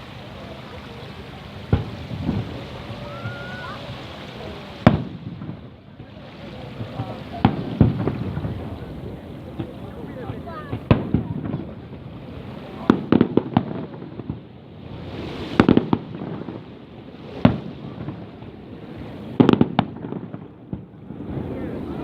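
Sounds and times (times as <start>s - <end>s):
fireworks bangs: 0.0s - 22.0s
rising firework hiss: 0.0s - 22.0s.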